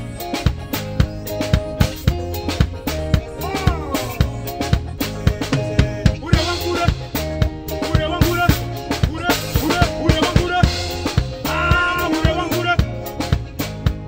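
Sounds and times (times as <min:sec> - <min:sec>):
live band playing upbeat groove: 0:00.0 - 0:14.0.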